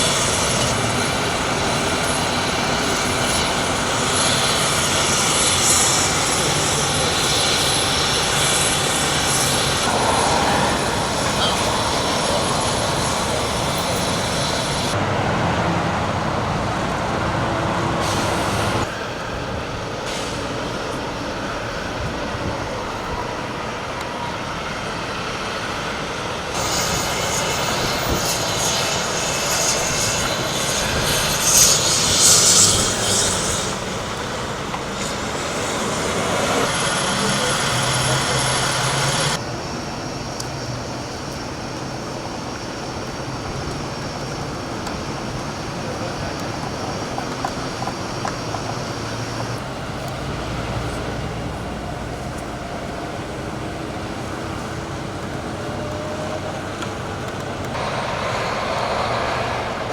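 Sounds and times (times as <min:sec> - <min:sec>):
helicopter engine and rotor: 0:00.0 - 0:15.2, 0:15.8 - 0:59.9
hissing whine: 0:00.0 - 0:59.9.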